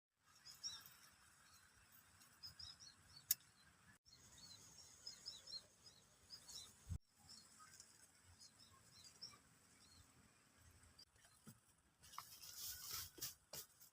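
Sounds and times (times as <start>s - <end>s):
small birds chirping: 0.2s - 13.2s.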